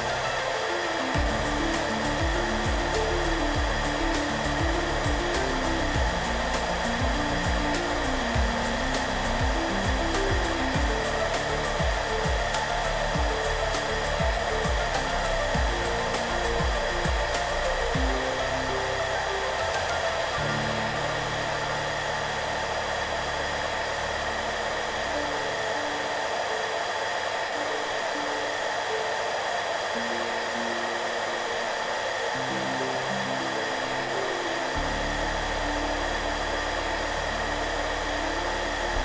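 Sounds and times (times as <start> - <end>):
hairdryer blowing: 0.0 - 39.0
soft background music: 0.0 - 39.0.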